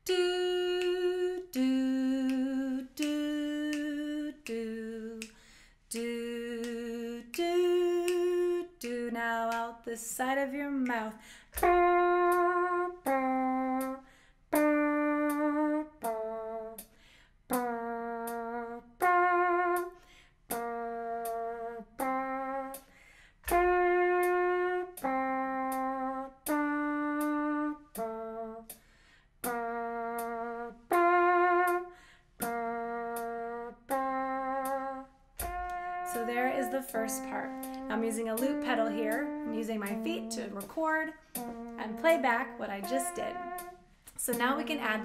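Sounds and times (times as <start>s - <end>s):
woman making mouth trumpet notes: 0.0s - 45.0s.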